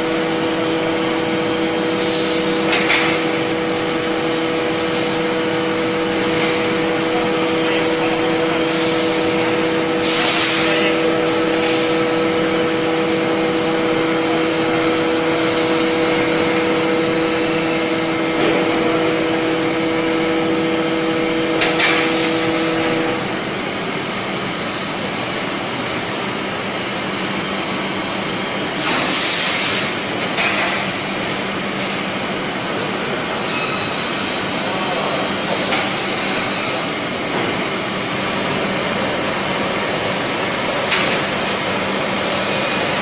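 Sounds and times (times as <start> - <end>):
factory machinery noise: 0.0 - 43.0.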